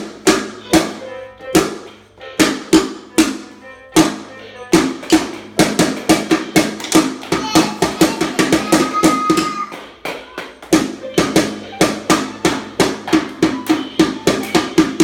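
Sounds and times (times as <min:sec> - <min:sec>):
drum being hit: 0:00.0 - 0:15.0.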